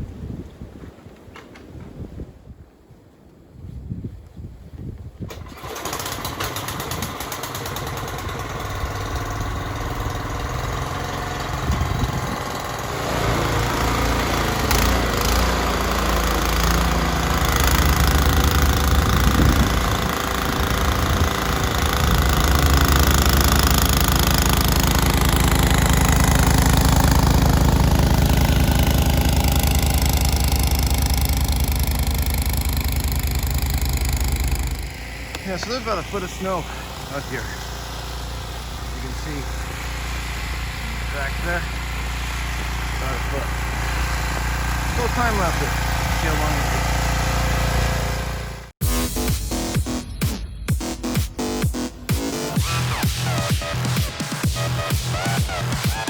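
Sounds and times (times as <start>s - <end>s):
snowblower engine running: 5.3s - 48.8s, 52.2s - 56.0s.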